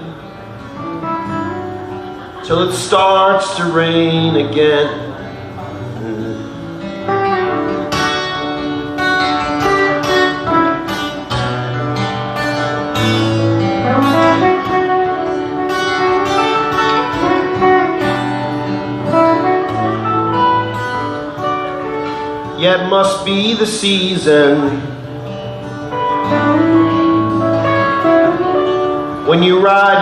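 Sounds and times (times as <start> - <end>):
acoustic guitar picked melody: 0.0 - 30.0.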